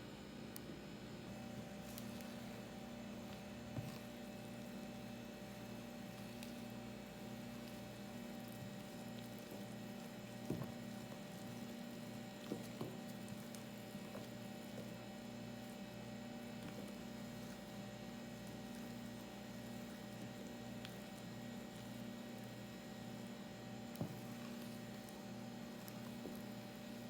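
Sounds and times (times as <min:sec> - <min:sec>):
electric mixer beating batter: 0:01.3 - 0:27.0.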